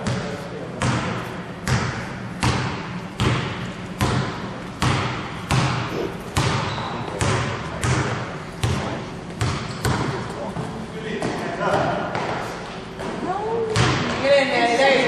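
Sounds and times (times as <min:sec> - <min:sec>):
basketball bouncing on gym floor: 0:00.0 - 0:14.3.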